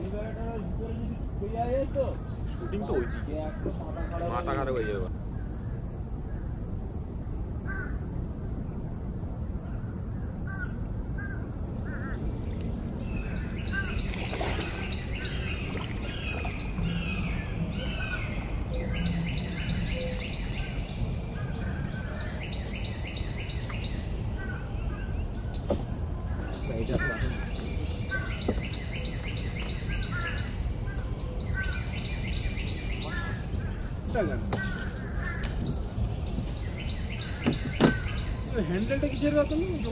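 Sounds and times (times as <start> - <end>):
small birds chirping and trilling: 0.0 - 6.6, 9.8 - 39.9
high-pitched insect drone: 0.0 - 39.9.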